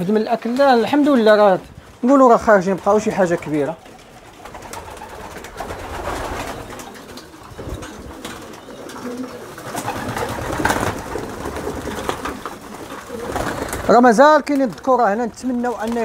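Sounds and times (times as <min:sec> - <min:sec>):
pigeons cooing: 0:00.1 - 0:14.2.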